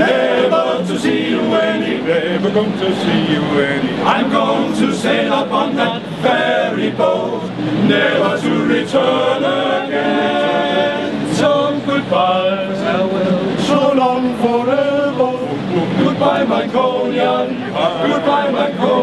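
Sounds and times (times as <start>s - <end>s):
male choir singing a cappella: 0.0s - 19.0s.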